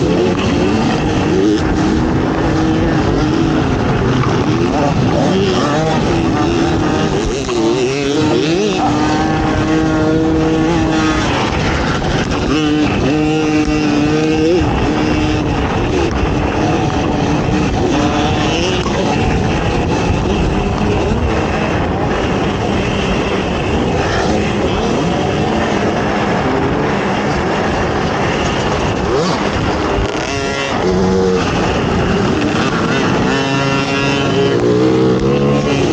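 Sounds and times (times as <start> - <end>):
atv engine revving: 0.0 - 35.9
rough rushing noise: 0.0 - 35.9.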